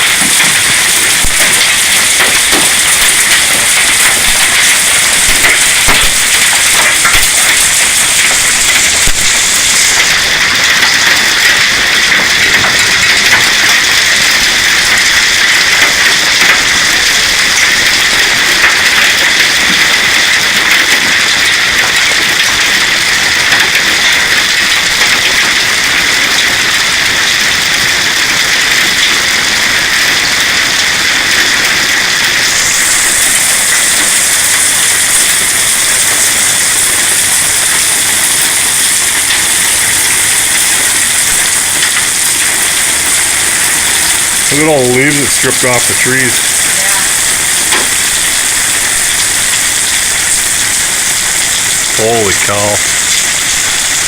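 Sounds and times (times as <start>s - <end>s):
hail and heavy rain pounding: 0.0s - 54.0s.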